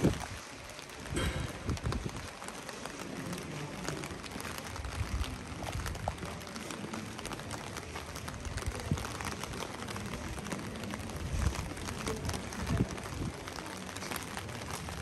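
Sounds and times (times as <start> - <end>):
rain on wet paving: 0.0 - 15.0.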